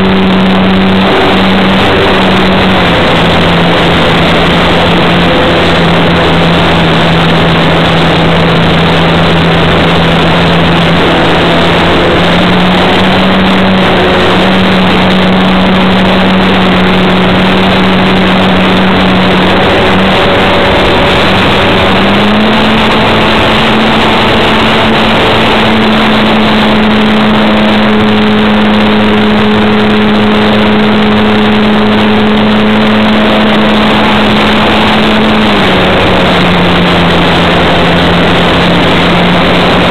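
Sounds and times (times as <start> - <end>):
loud rushing noise: 0.0 - 39.9
model plane motor and propeller: 0.0 - 39.9.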